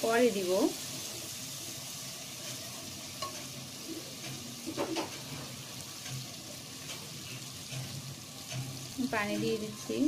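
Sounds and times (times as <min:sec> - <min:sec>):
spices sizzling in oil: 0:00.0 - 0:10.0.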